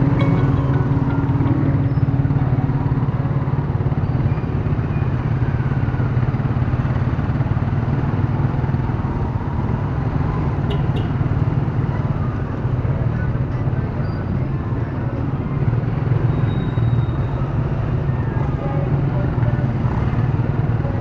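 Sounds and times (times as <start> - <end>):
nearby motorcycles road noise: 0.0 - 21.0.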